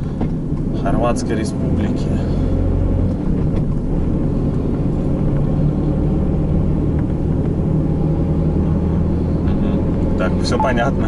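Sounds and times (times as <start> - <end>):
van engine drone inside cab: 0.0 - 11.0.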